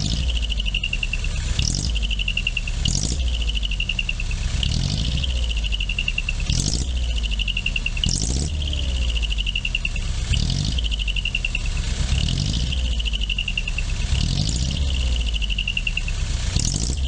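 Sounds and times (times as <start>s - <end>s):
diesel engine exhaust beat: 0.0s - 17.0s
high chirping exhaust whistle: 0.0s - 17.0s.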